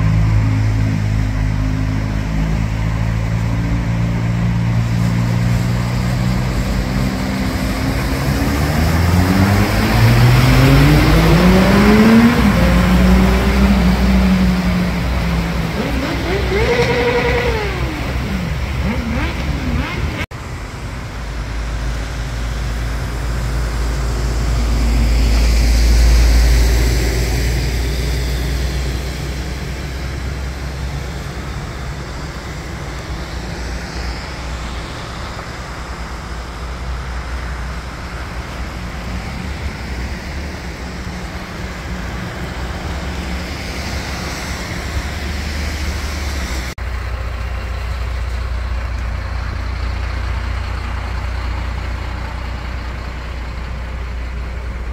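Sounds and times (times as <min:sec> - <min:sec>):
heavy vehicle engine rumble: 0:00.0 - 0:54.9
road traffic: 0:00.0 - 0:54.9.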